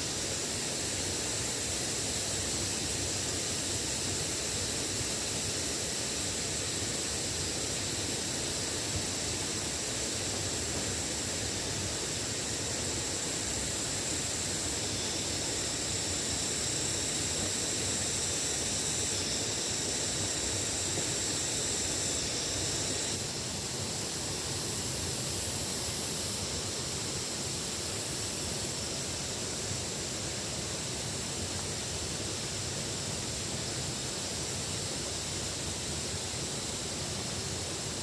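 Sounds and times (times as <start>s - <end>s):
high steady hiss: 0.0s - 38.0s.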